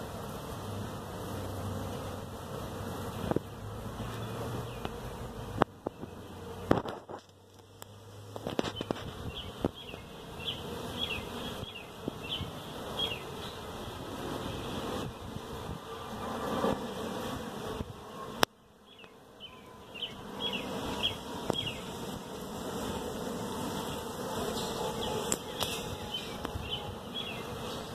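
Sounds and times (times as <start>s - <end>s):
honeybees buzzing: 0.0s - 27.9s.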